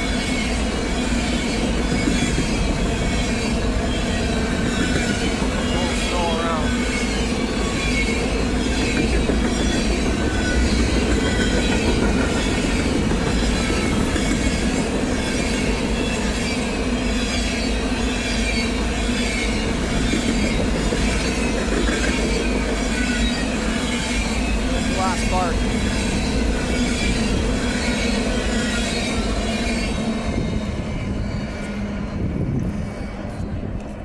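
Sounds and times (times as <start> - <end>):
rumble of train cars: 0.0 - 34.0
train wheels squealing: 0.0 - 34.0.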